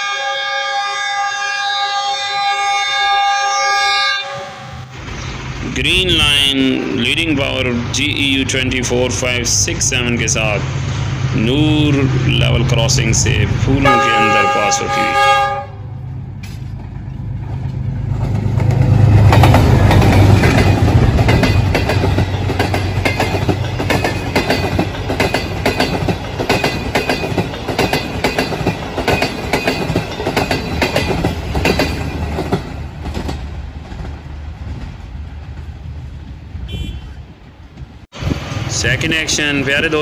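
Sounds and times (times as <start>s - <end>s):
diesel locomotive engine drone: 0.0s - 40.0s
wheels clickety-clack over rail joints: 5.0s - 40.0s.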